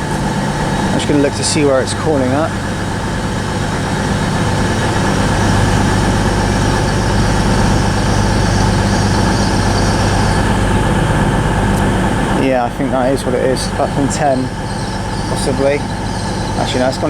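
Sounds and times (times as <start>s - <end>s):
faint high whine: 0.0s - 17.0s
train engine and motor hum: 0.0s - 17.0s.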